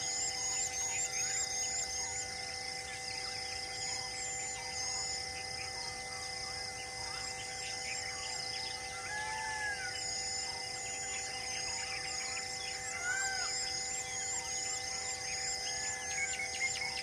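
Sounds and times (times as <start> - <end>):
pulsing high buzz: 0.0 - 17.0
steady high-pitched droning: 0.0 - 17.0
birds calling: 2.9 - 17.0.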